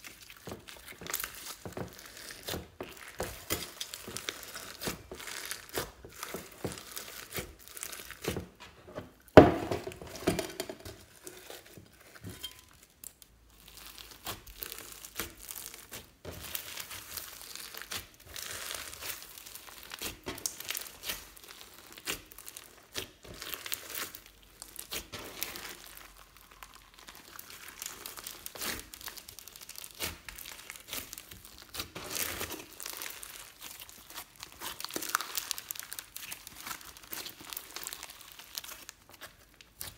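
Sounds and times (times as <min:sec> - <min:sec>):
slime crackling and popping: 0:00.0 - 0:08.6, 0:11.0 - 0:39.9.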